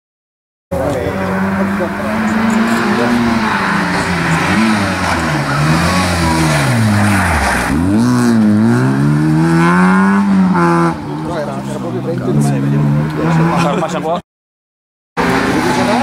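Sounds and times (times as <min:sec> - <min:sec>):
rally car engine revving: 0:00.8 - 0:14.2, 0:15.2 - 0:16.0.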